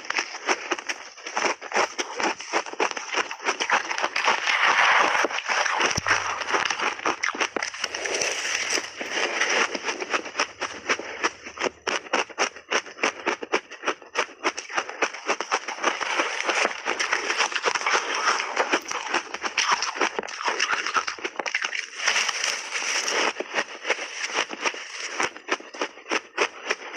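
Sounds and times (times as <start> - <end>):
crunchy ice being chewed: 0.0 - 26.9.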